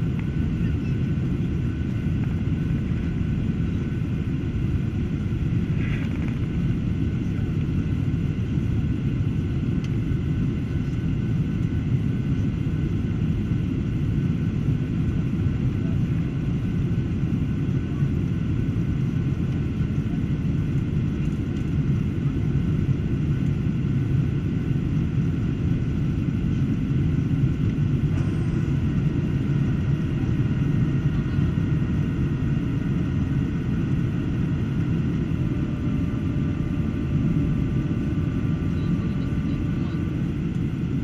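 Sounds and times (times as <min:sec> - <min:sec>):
airplane cabin rumble: 0:00.0 - 0:41.0
faint thin steady whines: 0:00.0 - 0:41.0.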